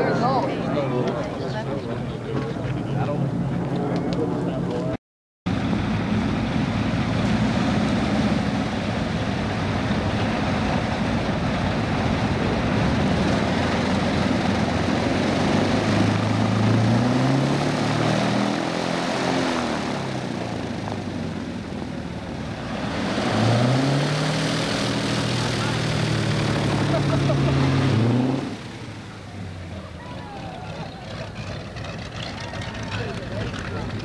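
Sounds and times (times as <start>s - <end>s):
propeller plane engines droning: 0.0s - 34.0s.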